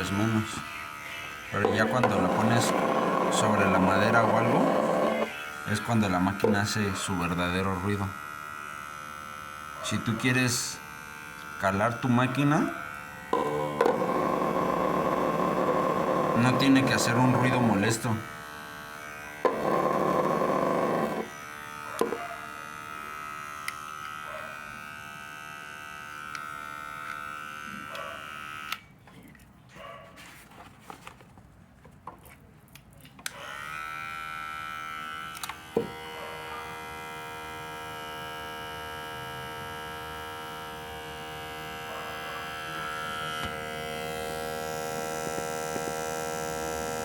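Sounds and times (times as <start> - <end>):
electric hair clipper humming: 0.0 - 28.9, 33.2 - 47.0.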